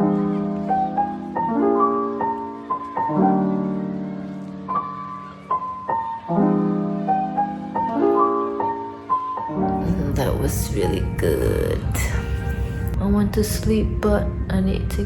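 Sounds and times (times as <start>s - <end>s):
soft slow piano music: 0.0s - 15.0s.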